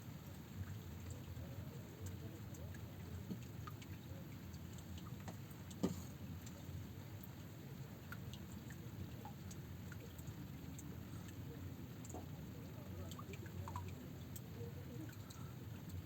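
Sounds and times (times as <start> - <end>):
rain dripping: 0.0 - 16.0.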